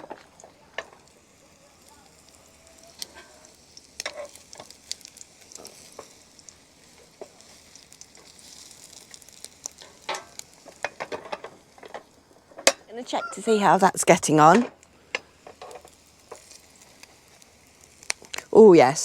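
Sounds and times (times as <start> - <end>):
bread frying in oil: 0.0 - 19.0.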